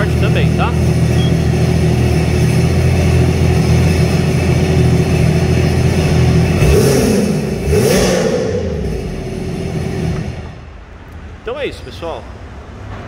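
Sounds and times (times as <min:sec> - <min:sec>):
jet ski engine idling and revving: 0:00.0 - 0:10.7.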